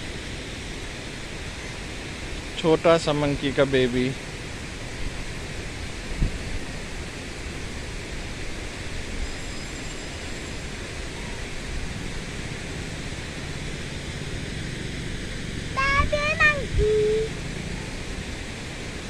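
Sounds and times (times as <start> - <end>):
steady outdoor rushing noise: 0.0 - 19.0.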